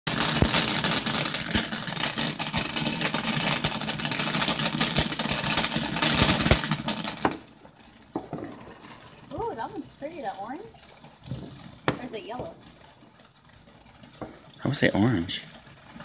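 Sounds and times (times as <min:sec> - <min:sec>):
firework hissing and crackling: 0:00.1 - 0:16.0.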